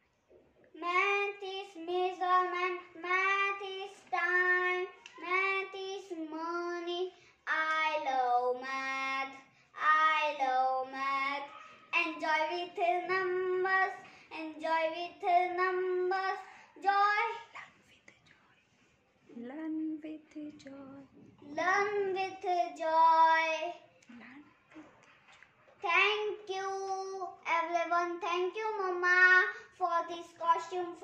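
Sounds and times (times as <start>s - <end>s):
boy singing unaccompanied: 0.8s - 17.6s, 19.6s - 23.9s, 25.8s - 31.0s.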